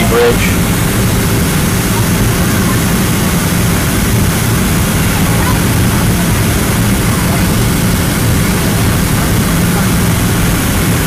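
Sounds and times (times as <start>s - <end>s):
aircraft engine drone: 0.0s - 11.0s
rushing airflow: 0.0s - 11.0s.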